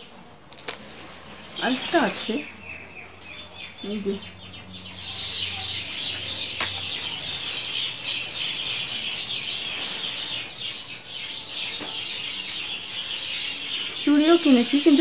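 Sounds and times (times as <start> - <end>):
small birds chirping: 0.9 - 15.0.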